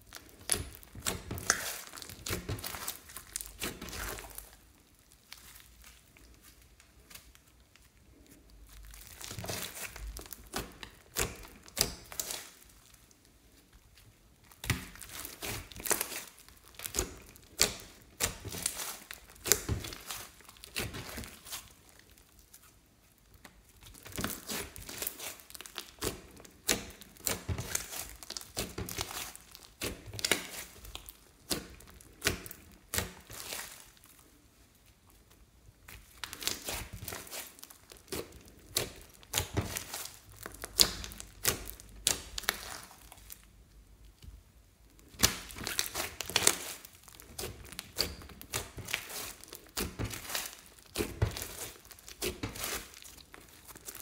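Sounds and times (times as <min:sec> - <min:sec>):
slime crackling and popping: 0:00.0 - 0:54.0.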